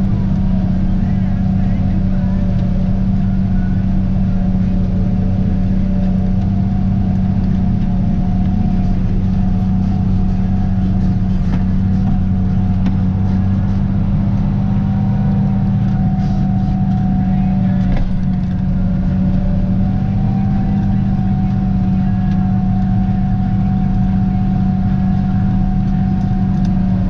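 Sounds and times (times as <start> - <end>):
tractor and harvester droning: 0.0 - 27.0.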